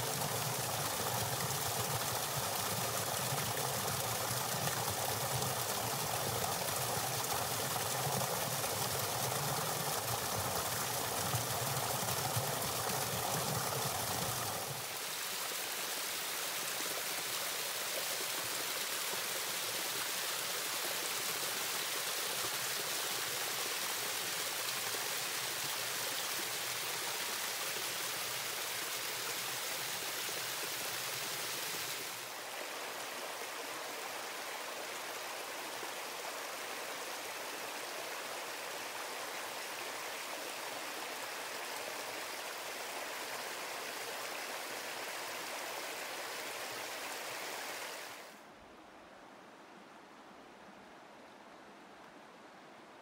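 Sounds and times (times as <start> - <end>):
river water rushing: 0.0 - 48.5.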